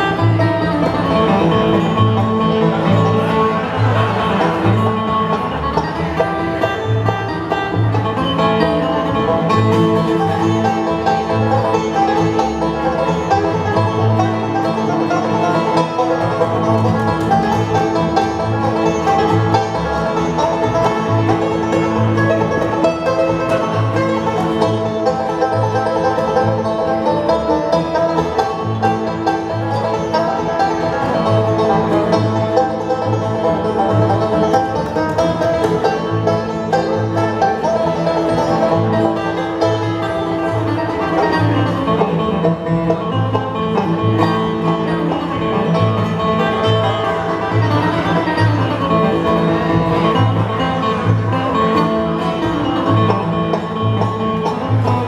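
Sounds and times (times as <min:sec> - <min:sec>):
banjo picking: 0:00.0 - 0:55.0
bluegrass band playing: 0:00.0 - 0:55.0.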